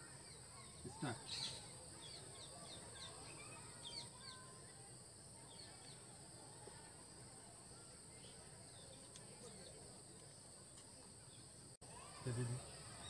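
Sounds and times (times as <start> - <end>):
faint high insect hum: 0.0 - 13.0.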